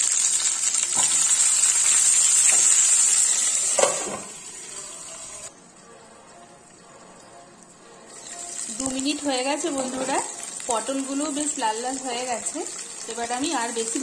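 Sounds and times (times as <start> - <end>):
vegetables sizzling in oil: 0.0 - 6.0, 7.6 - 14.0.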